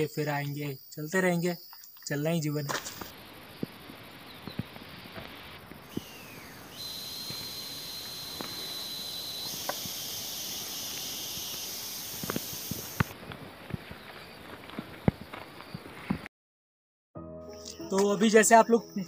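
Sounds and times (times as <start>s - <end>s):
insects droning: 0.0s - 16.3s.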